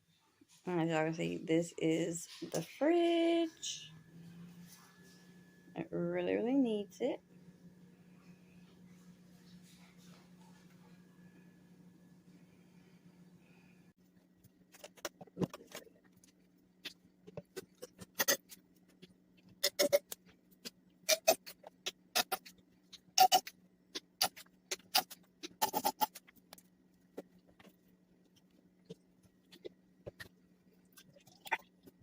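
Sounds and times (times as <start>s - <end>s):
steady low hum: 0.1s - 32.0s.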